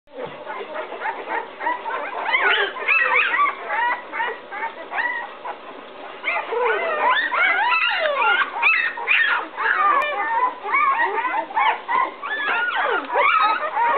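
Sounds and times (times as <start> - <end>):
puppies whining and crying: 0.1 - 13.9.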